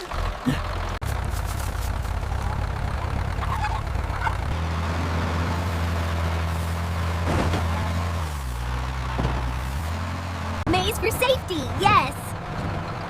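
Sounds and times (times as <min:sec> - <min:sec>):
bulldozer engine droning: 0:00.0 - 0:13.0.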